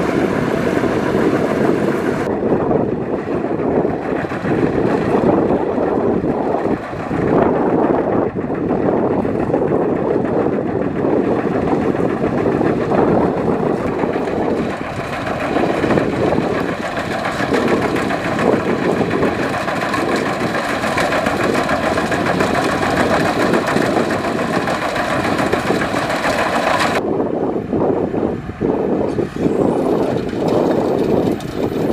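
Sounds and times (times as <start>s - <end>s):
combine harvester engine running: 0.0s - 31.9s.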